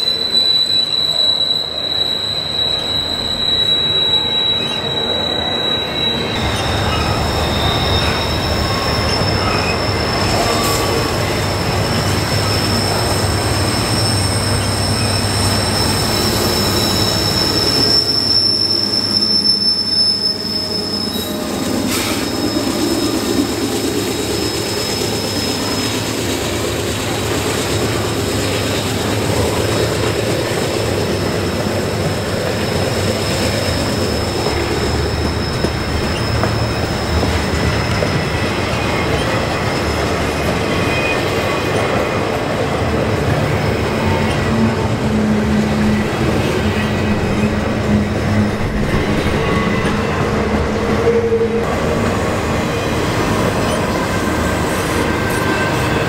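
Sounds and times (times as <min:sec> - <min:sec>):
high wheel flange squeal: 0:00.0 - 0:56.0
train wheels rumbling on rails: 0:00.0 - 0:56.0.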